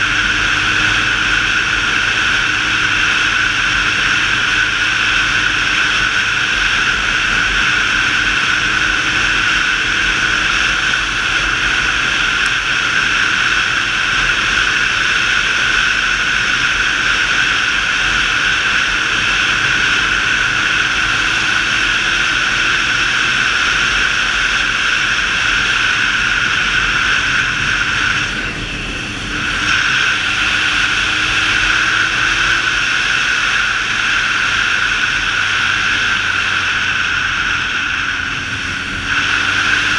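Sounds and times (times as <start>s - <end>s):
motorcycle engine hum: 0.0s - 39.9s
wind rushing over microphone: 0.0s - 39.9s.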